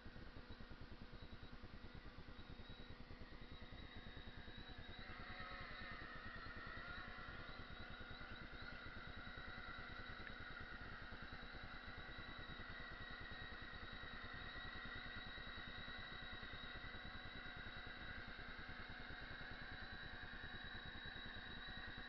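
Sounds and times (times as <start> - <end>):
drone propellers whirring: 2.7 - 22.0.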